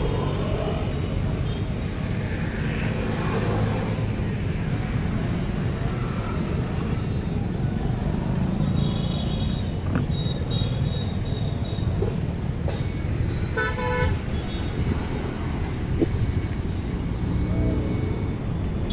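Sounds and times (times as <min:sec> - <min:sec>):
traffic rumble: 0:00.0 - 0:18.9.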